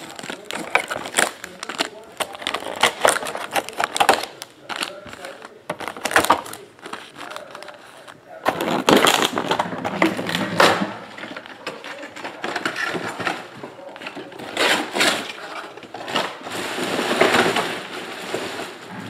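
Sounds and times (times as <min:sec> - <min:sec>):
plastic and foil wrapping crinkling: 0:00.0 - 0:19.0.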